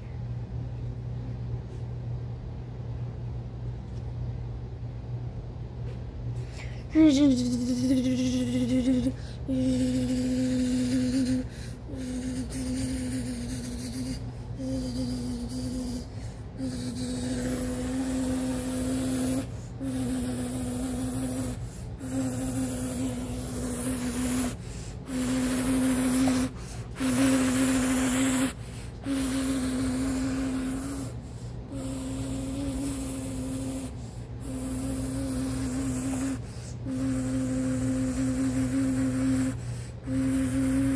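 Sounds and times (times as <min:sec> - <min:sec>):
low electrical hum: 0:00.0 - 0:40.9
person humming low notes: 0:06.8 - 0:40.9.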